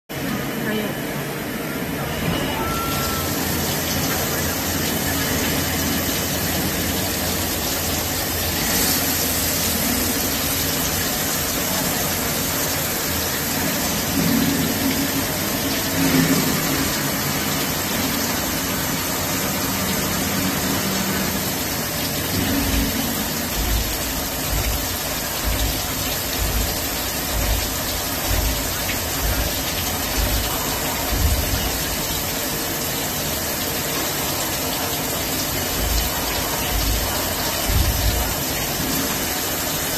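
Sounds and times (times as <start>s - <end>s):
machine running hum: 0.1s - 39.9s
coolant spraying: 3.3s - 39.9s.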